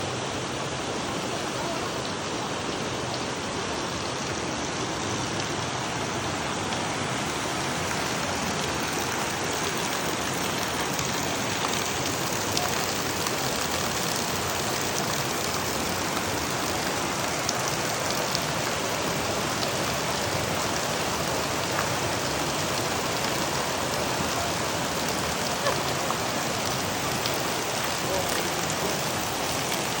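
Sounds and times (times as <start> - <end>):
waterfall rushing: 0.1 - 30.0
faint water splashing: 1.1 - 30.0.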